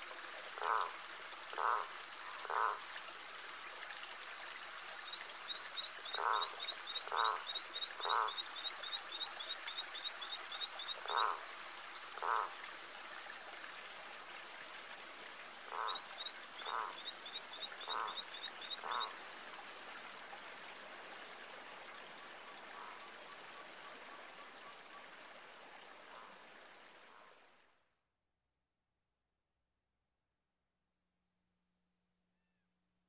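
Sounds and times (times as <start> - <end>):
frogs croaking: 0.0 - 20.5, 21.2 - 27.4.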